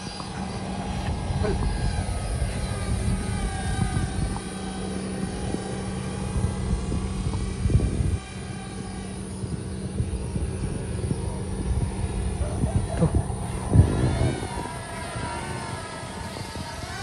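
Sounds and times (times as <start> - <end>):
small electric motor whine: 0.0 - 17.0
wind rumble on microphone: 0.0 - 17.0.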